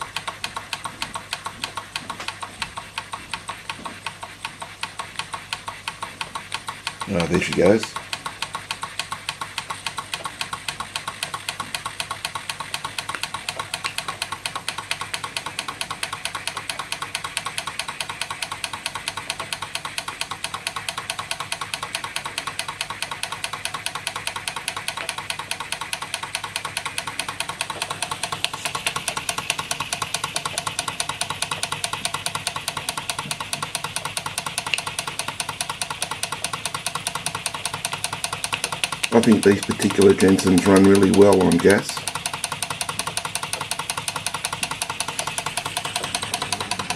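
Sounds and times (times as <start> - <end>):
toy steam engine chuffing: 0.0 - 46.9.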